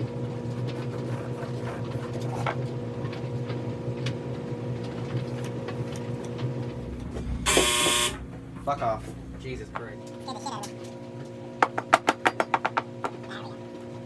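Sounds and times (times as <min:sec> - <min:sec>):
electrical hum: 0:00.0 - 0:11.9.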